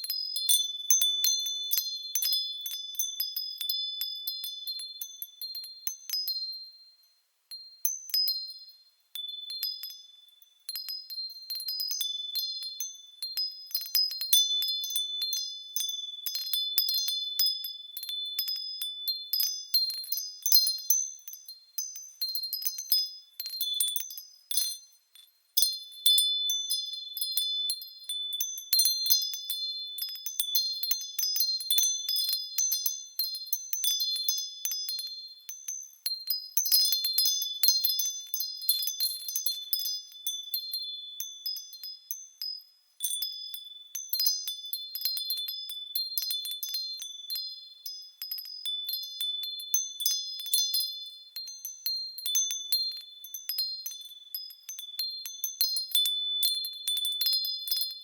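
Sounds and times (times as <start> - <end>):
wind chimes ringing: 0.0 - 6.8, 7.5 - 58.0.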